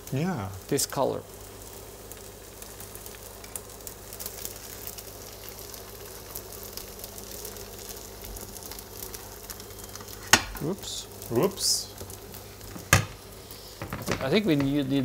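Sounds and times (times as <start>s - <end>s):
batter sizzling in a pan: 0.0s - 15.0s
faint crackles: 0.0s - 15.0s.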